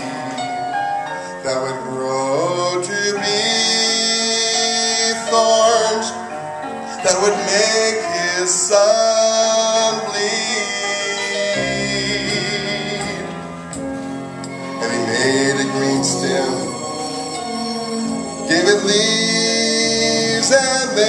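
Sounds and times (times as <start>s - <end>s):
instrumental accompaniment: 0.0s - 21.0s
man singing into microphone: 1.4s - 6.3s, 7.0s - 13.4s, 14.8s - 21.0s.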